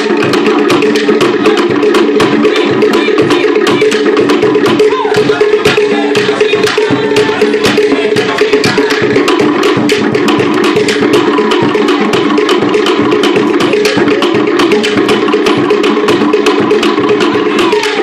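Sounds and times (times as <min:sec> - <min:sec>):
fast wooden slit drum strikes: 0:00.0 - 0:18.0
skin drum: 0:00.0 - 0:18.0.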